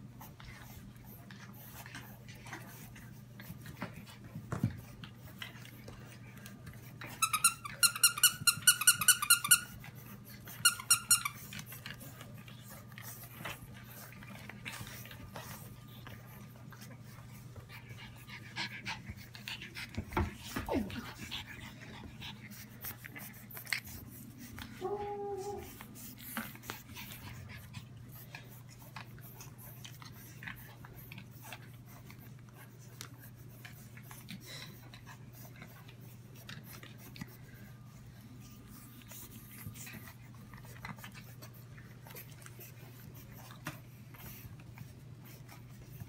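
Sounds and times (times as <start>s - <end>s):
low steady hum: 0.0s - 46.0s
puppies scuffling on floor: 0.1s - 46.0s.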